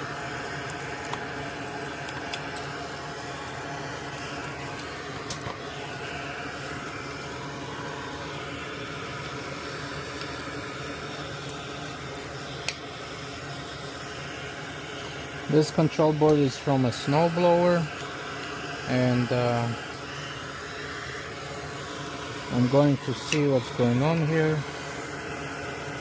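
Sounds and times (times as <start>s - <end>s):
fan humming: 0.0s - 26.0s.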